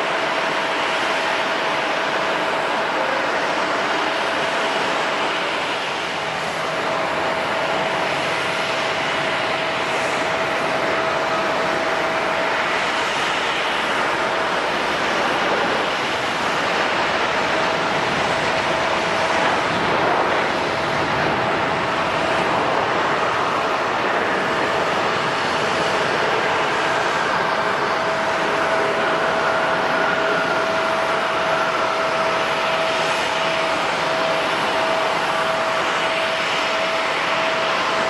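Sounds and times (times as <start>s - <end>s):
jet engines rushing: 0.0s - 38.0s
thin steady whine: 0.0s - 38.0s.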